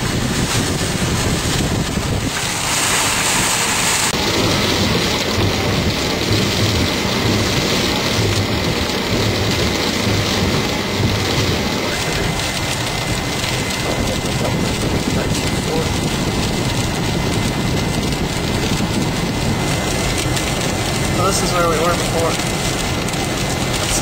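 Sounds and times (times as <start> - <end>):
heavy rain falling: 0.0 - 24.0
low rumble: 0.0 - 24.0.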